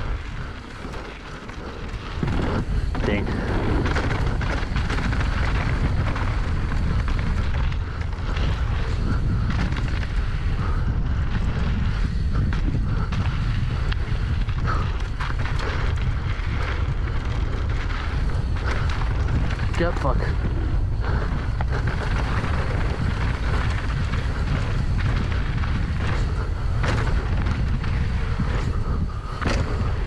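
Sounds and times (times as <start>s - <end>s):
bike clicks and rattles: 0.0s - 30.0s
tyre noise on dirt: 0.0s - 30.0s
wind buffeting microphone: 0.0s - 30.0s.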